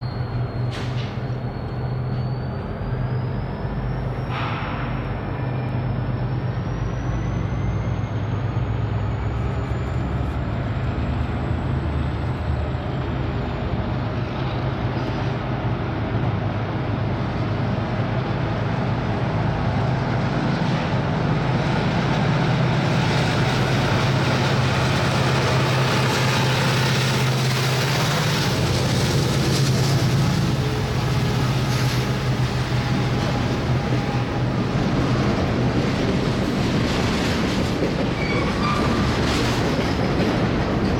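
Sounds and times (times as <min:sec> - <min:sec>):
container cars rolling past: 0:00.0 - 0:40.9
locomotive engines droning: 0:00.0 - 0:40.9.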